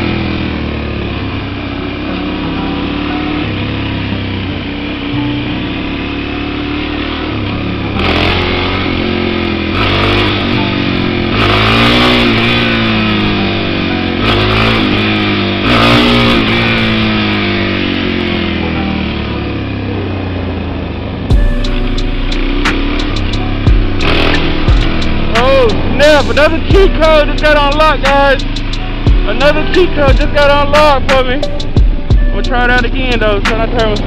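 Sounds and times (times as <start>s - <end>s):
motorcycle engine revving hard: 0.0s - 34.0s.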